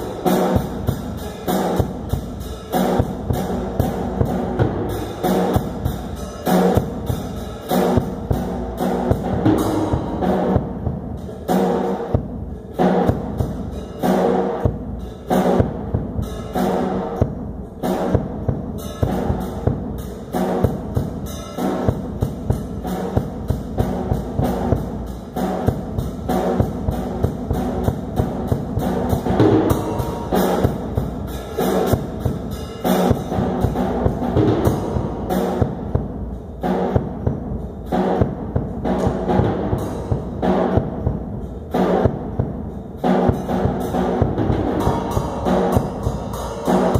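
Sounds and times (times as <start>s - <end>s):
drum kit playing: 0.0s - 46.9s.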